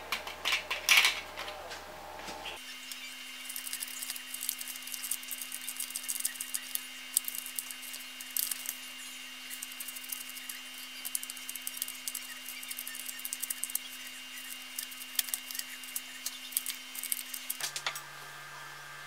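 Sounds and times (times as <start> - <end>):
faint hum and high whine: 0.0 - 19.0.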